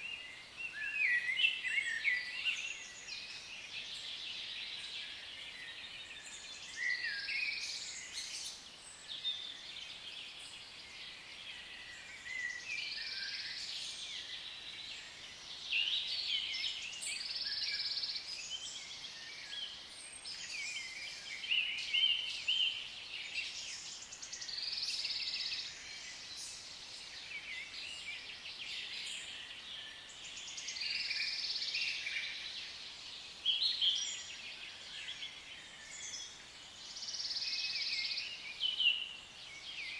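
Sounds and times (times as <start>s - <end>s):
birds chirping and trilling: 0.0s - 39.9s
high-pitched background hiss: 0.0s - 39.9s.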